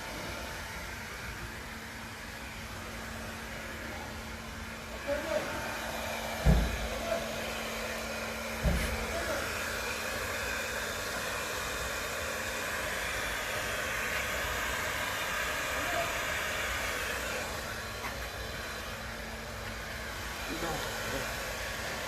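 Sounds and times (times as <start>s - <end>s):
blow dryer running: 0.0s - 22.0s.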